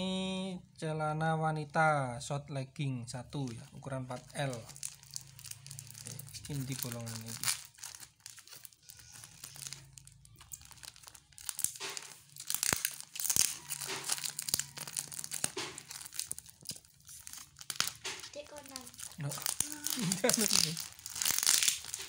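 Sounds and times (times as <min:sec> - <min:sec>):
plastic film crinkling: 0:03.4 - 0:22.0.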